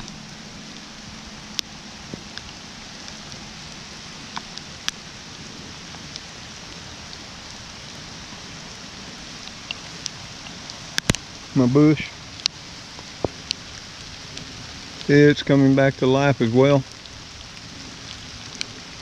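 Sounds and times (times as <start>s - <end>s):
raindrops ticking close by: 0.0s - 19.0s
steady rain hiss: 0.0s - 19.0s.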